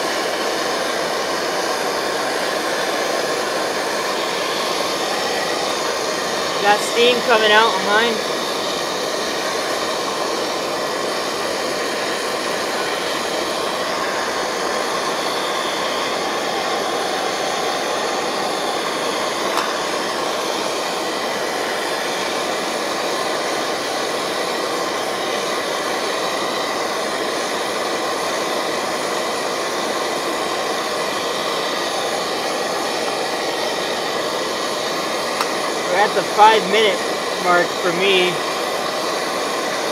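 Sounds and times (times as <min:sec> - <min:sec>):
stove burner roaring: 0:00.0 - 0:39.9.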